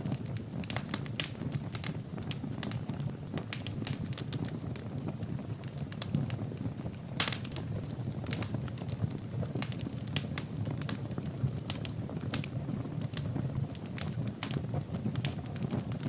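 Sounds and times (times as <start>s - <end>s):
burning logs crackling: 0.0s - 16.0s
low rumble of flames: 0.0s - 16.0s.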